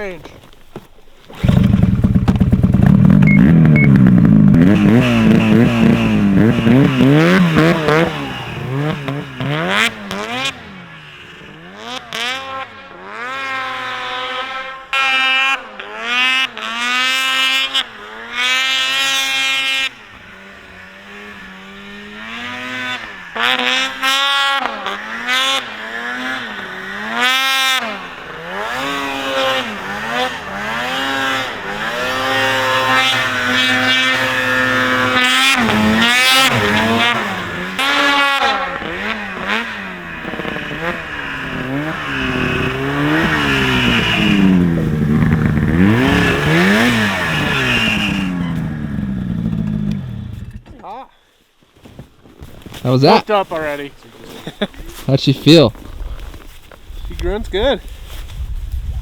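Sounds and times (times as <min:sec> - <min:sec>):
snowmobile engine revving: 0:01.2 - 0:50.7, 0:52.8 - 0:56.3.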